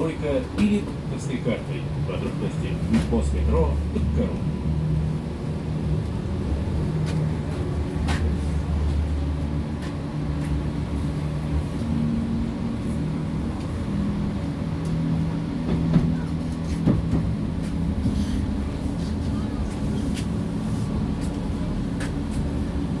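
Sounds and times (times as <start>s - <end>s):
tram rumble with drive tones: 0.0s - 23.0s.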